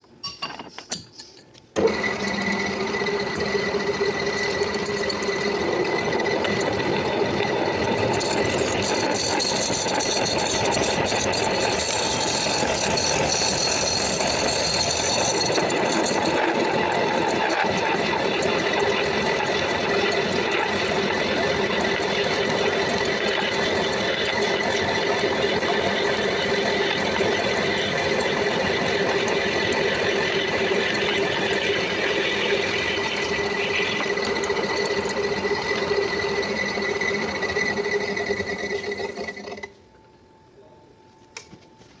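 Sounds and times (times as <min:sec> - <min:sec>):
metal lathe running: 0:01.8 - 0:39.8.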